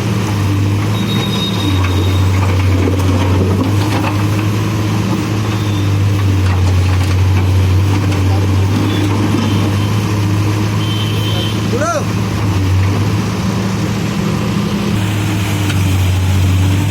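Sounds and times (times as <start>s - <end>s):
diesel engine humming: 0.0s - 16.9s.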